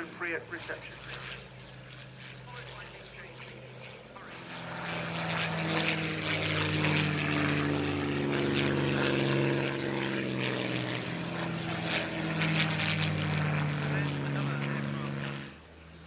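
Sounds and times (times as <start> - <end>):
propeller aircraft flying past: 0.0 - 16.0.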